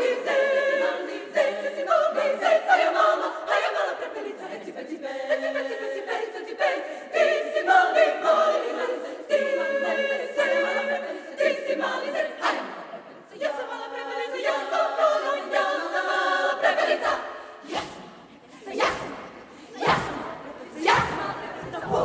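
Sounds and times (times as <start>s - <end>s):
women's choir singing a cappella: 0.0s - 22.0s.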